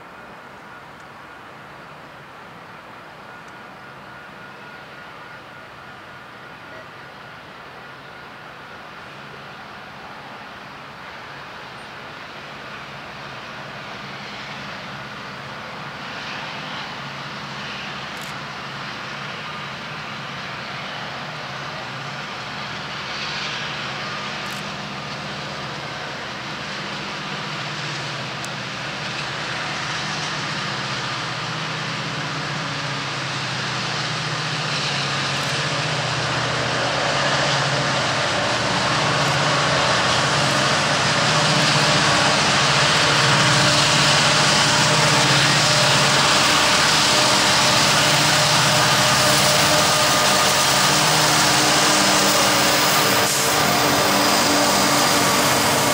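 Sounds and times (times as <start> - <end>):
diesel locomotive engine drone: 0.0 - 55.9.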